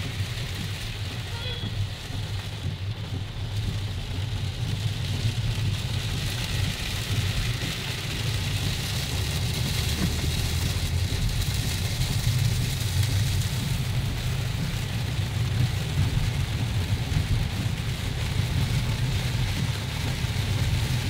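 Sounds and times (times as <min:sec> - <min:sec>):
engine and tyres rumbling: 0:00.0 - 0:21.0
rain and spray hissing: 0:00.0 - 0:21.0.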